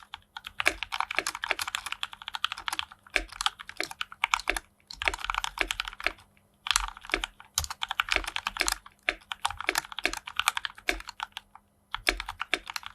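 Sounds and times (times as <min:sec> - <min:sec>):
typing on mechanical keyboard: 0:00.0 - 0:12.9.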